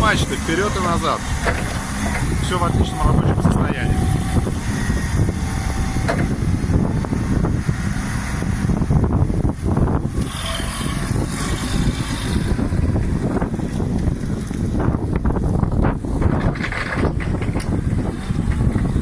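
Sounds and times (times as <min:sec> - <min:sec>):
forklift diesel engine running: 0:00.0 - 0:19.0.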